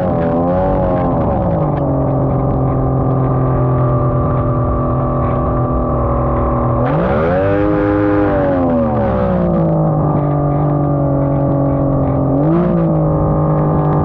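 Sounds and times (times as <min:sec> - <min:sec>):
outboard engine revving: 0:00.0 - 0:14.0.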